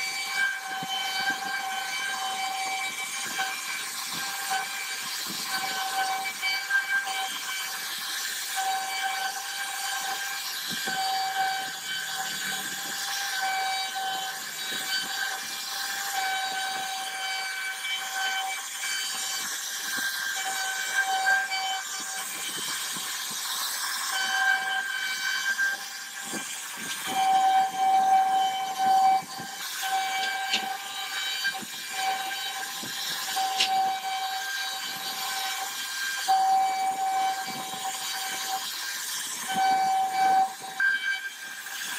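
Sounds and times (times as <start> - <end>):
bit cutting wood hiss: 0.0 - 41.9
router spindle whining: 0.0 - 41.9.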